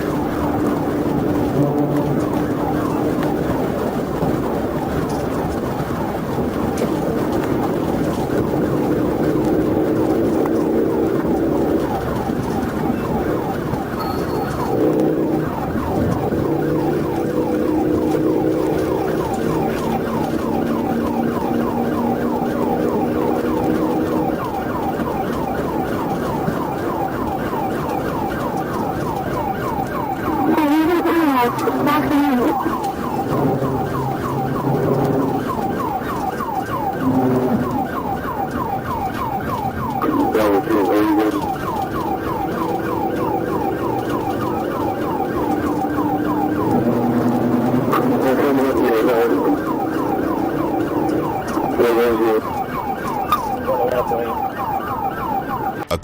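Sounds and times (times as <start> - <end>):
police siren yelping: 0.0 - 56.0
vehicle running and road noise: 0.0 - 56.0.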